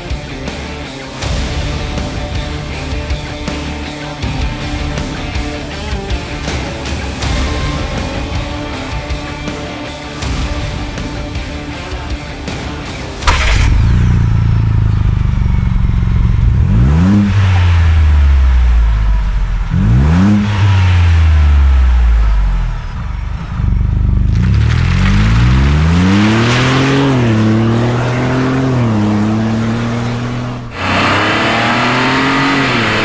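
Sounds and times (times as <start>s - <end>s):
engine revving: 0.0s - 33.0s
car engine starting and idling: 0.4s - 33.0s.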